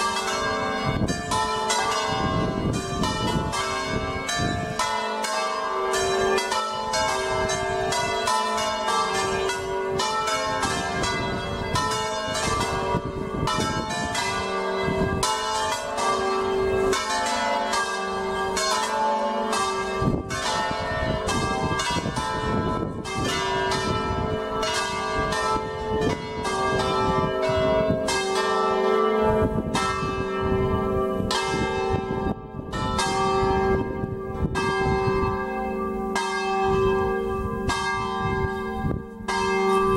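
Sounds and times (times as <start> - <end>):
church bells ringing: 0.0 - 39.9
wind rumble on microphone: 0.2 - 5.0, 5.9 - 17.2, 17.8 - 39.9.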